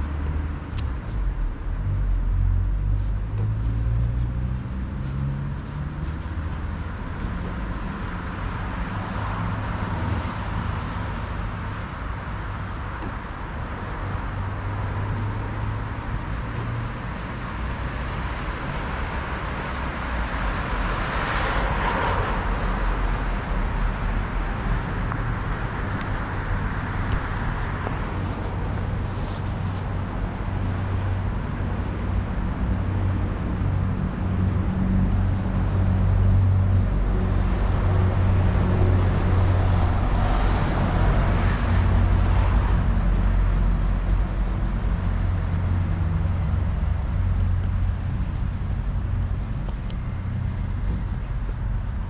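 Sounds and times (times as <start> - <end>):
cars passing by: 0.0 - 52.0.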